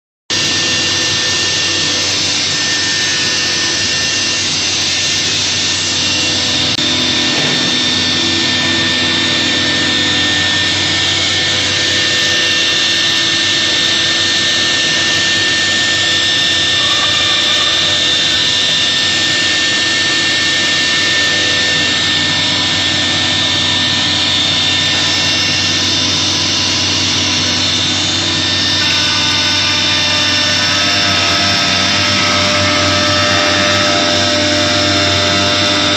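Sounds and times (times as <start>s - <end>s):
router spindle whining: 0.3s - 35.9s.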